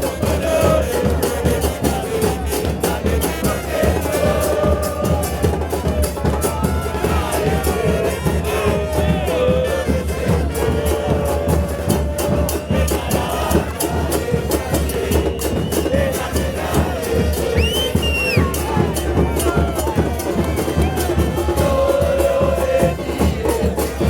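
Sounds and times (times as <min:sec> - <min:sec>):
bass drums pounding: 0:00.0 - 0:24.0
crowd chanting: 0:00.0 - 0:24.0.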